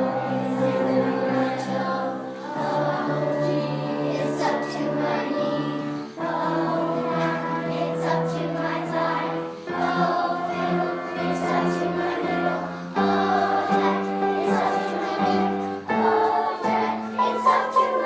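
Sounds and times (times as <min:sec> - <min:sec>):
choral chords music: 0:00.0 - 0:18.0.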